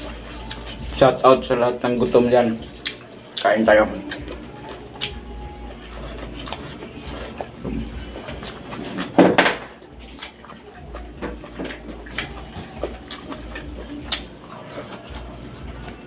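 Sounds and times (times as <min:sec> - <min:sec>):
person chewing with wet clicks: 0:00.0 - 0:09.2, 0:09.8 - 0:16.0.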